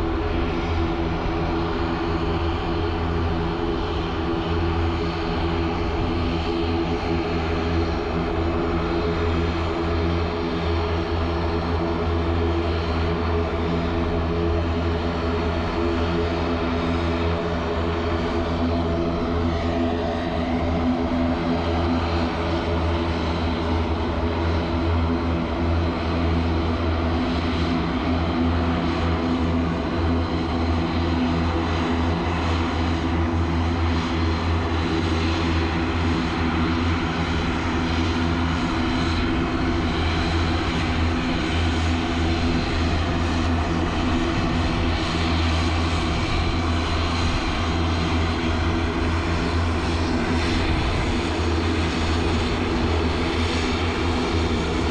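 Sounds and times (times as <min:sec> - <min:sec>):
turboprop engines droning: 0:00.0 - 0:54.9.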